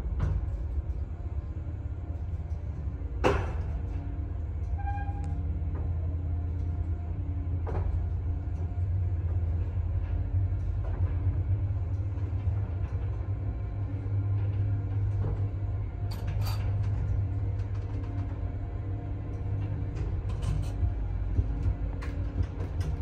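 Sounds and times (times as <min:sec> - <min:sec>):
elevator hum and rumble: 0:00.0 - 0:23.0.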